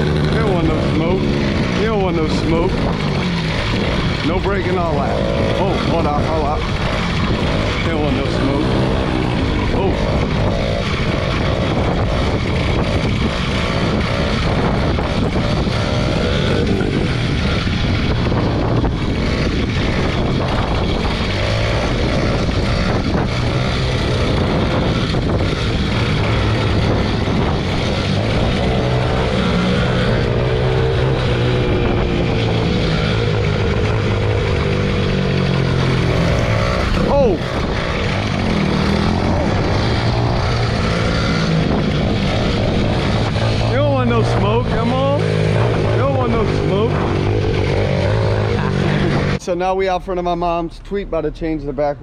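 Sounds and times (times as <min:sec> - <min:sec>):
small motorbike engine revving: 0:00.0 - 0:49.4
constant rushing noise: 0:00.0 - 0:52.0.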